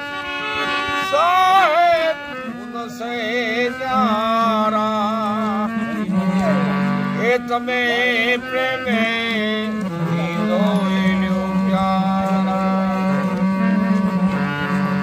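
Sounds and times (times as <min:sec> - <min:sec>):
harmonium: 0:00.0 - 0:15.0
elderly man singing: 0:00.8 - 0:15.0.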